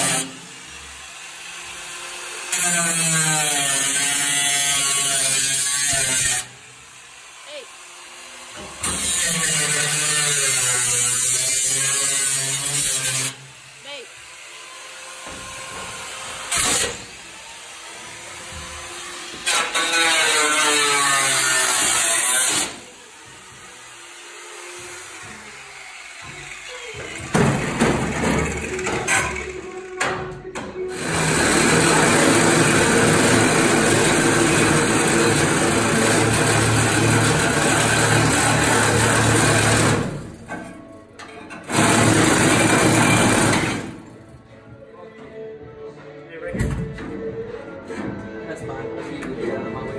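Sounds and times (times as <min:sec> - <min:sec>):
power cutting tool cutting sheet metal: 0:00.0 - 0:30.1, 0:30.8 - 0:40.8, 0:41.6 - 0:44.1.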